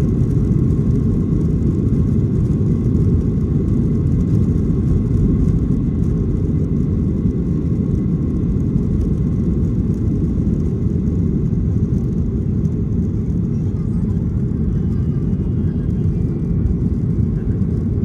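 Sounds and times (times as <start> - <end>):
jet engines low rumble: 0.0 - 18.0.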